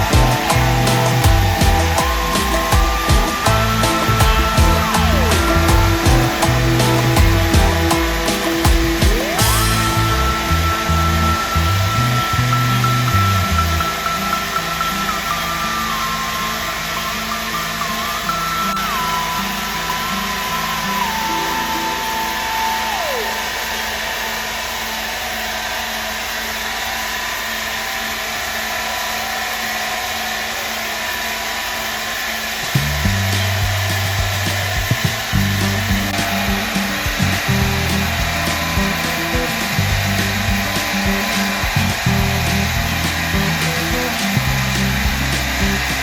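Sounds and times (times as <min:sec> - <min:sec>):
background music: 0:00.0 - 0:24.3, 0:33.1 - 0:46.0.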